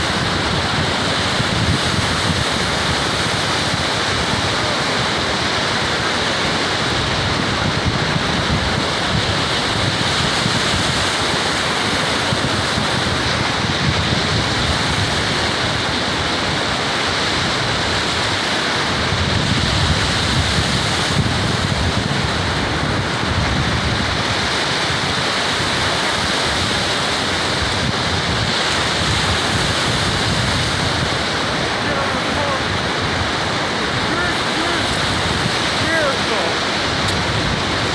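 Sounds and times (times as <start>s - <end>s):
ocean surf rushing: 0.0s - 37.9s
wind buffeting microphone: 0.0s - 37.9s.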